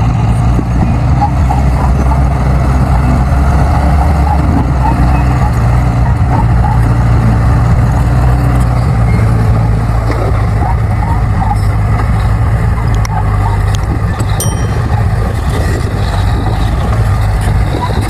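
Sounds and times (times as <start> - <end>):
bulldozer diesel engine: 0.0 - 18.0.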